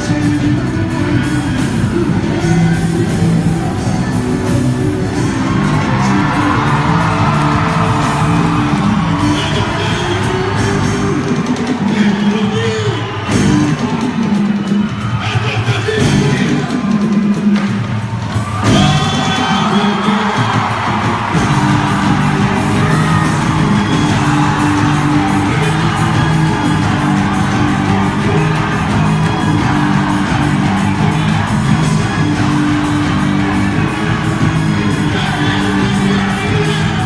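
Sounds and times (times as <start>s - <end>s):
folk dance music with singing: 0.0s - 37.0s
people whooping and shouting: 0.9s - 17.4s, 18.0s - 37.0s.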